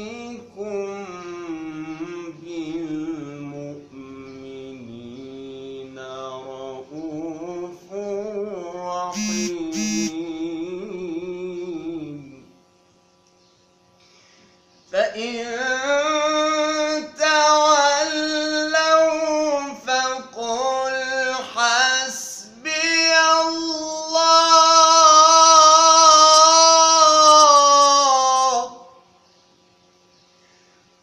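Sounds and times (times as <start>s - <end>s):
man reciting melodically: 0.0s - 12.4s, 15.0s - 29.0s.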